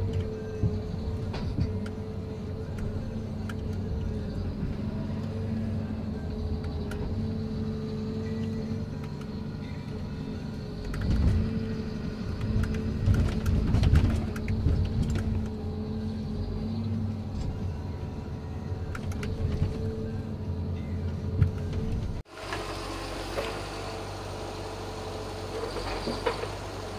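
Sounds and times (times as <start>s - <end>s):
diesel engine running: 0.0s - 26.9s
hydraulic crane working: 0.0s - 26.9s.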